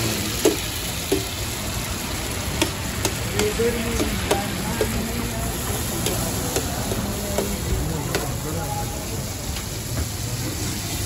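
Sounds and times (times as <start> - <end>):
liver sizzling in oil: 0.0 - 11.0.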